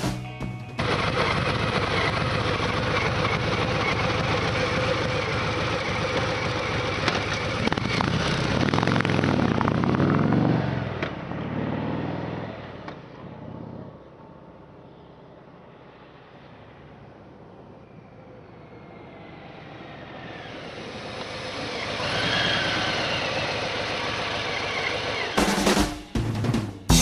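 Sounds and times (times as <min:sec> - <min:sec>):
motorcycle engine idling and revving: 0:00.0 - 0:14.6, 0:18.9 - 0:27.0.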